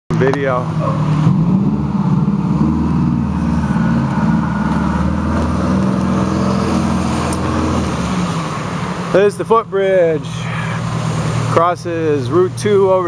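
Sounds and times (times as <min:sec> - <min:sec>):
vehicle engine humming: 0:00.1 - 0:13.0.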